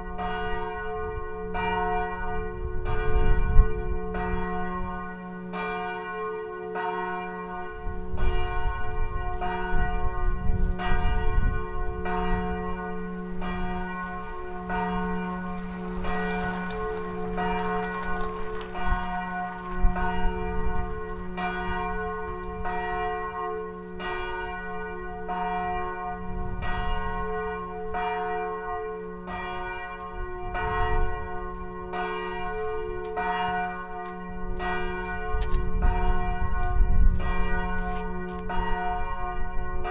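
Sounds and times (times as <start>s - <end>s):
church bell tolling: 0.0s - 39.9s.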